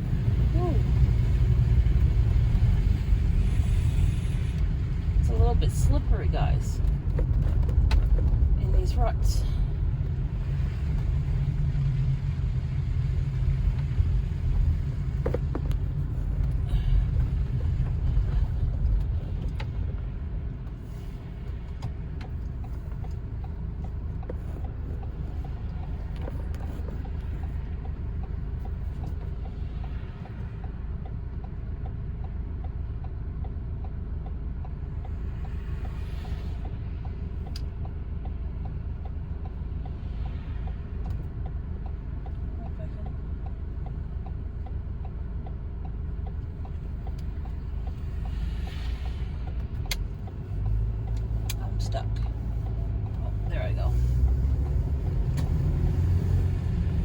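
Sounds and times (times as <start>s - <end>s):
tyres rumbling on snowy road: 0.0s - 57.0s.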